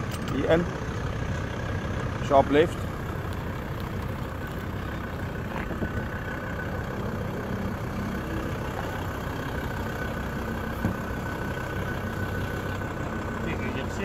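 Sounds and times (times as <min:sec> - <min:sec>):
truck engine running slowly: 0:00.0 - 0:14.0
high whine: 0:02.7 - 0:14.0.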